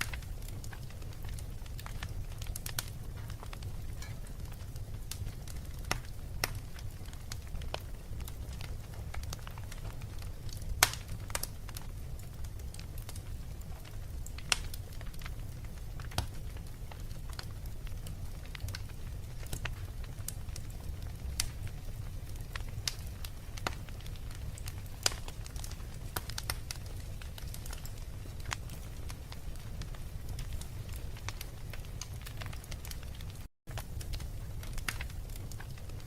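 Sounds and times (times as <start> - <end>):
low fire rumble: 0.0 - 36.0
wood fire crackling: 0.0 - 36.0.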